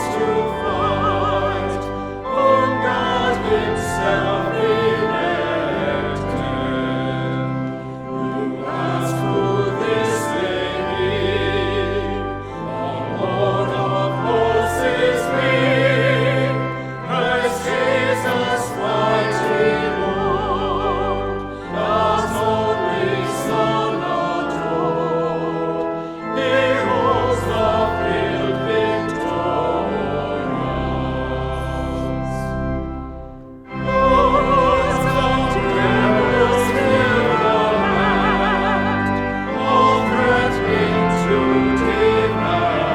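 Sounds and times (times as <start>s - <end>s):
sacred singing with vibrato: 0.0s - 32.5s, 33.7s - 42.9s
sustained low accompaniment: 0.0s - 42.9s.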